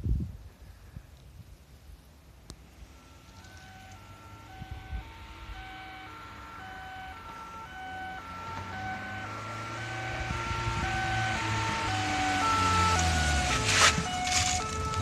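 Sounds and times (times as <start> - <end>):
low vehicle rumble: 1.8 - 15.0
police two-tone siren: 2.9 - 15.0.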